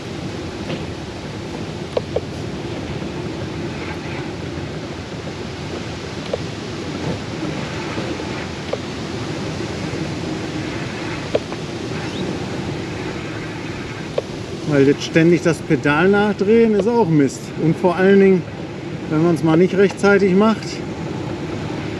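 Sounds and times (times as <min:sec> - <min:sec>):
wind rushing on microphone: 0:00.0 - 0:21.9.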